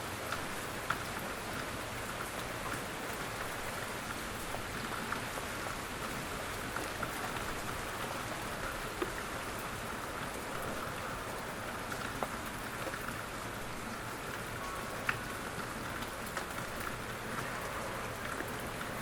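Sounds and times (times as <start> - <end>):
gentle rain falling: 0.0 - 19.0.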